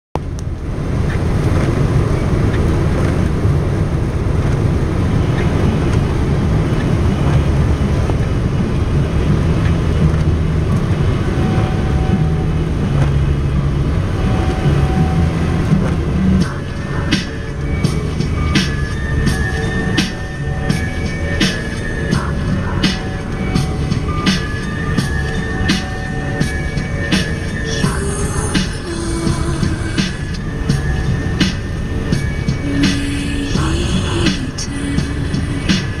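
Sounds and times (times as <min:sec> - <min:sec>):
car engine and road noise: 0:00.1 - 0:36.0.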